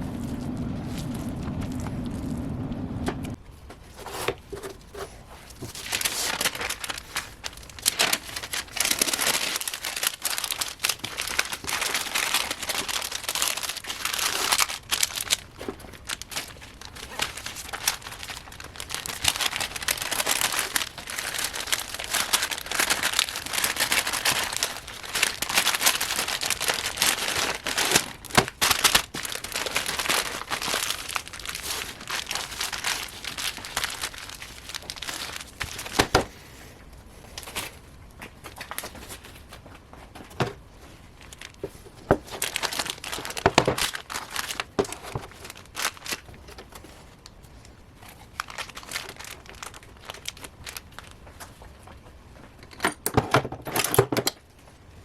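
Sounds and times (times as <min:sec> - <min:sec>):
scratchy rubbing and crinkling: 0:03.8 - 0:51.8.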